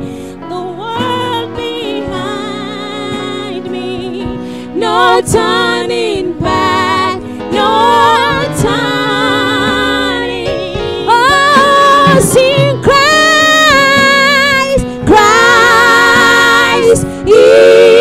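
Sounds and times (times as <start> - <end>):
instrumental backing: 0.0 - 18.0
women singing gospel: 0.5 - 18.0.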